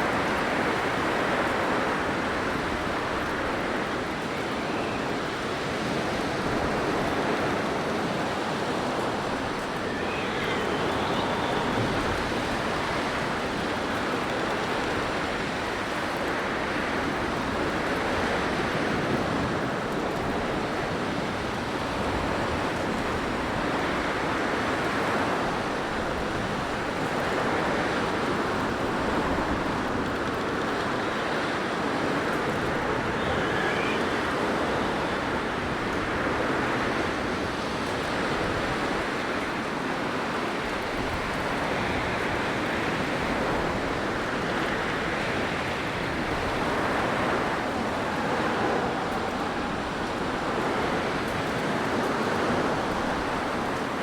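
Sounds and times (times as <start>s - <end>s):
blizzard wind gusting: 0.0s - 54.0s.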